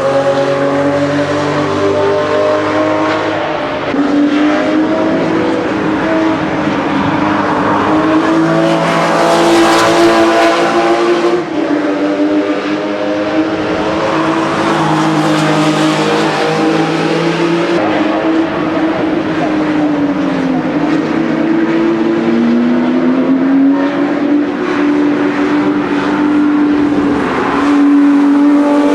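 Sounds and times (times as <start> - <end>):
sports car engines racing: 0.0 - 28.9.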